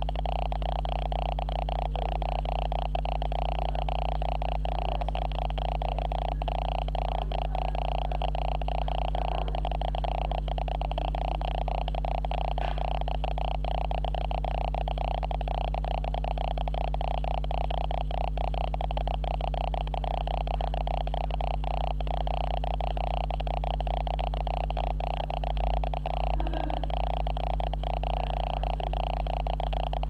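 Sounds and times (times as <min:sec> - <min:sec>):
electronic buzz with crackle: 0:00.0 - 0:30.0.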